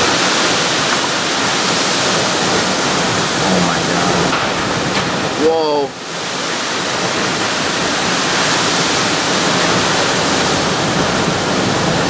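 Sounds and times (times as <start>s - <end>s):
hurricane wind and driving rain: 0.0s - 12.0s.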